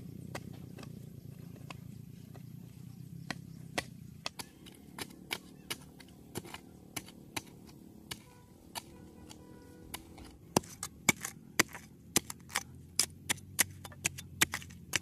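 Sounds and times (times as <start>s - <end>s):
metal hoe striking stony dirt: 0.2s - 1.0s, 3.2s - 15.0s.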